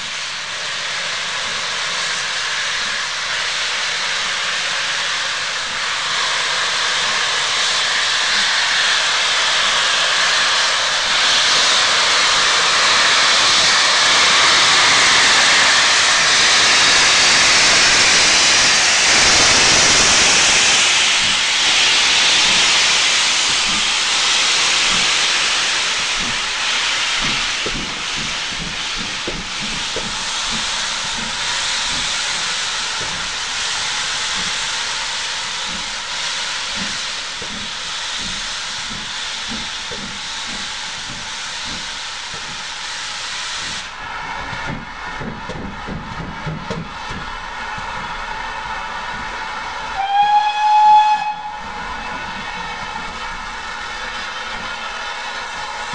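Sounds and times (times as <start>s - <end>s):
steam hissing from locomotive: 0.0s - 55.9s.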